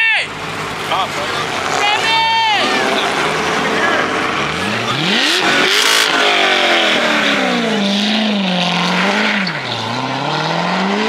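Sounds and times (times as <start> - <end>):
car engine revving: 0.3 - 11.0.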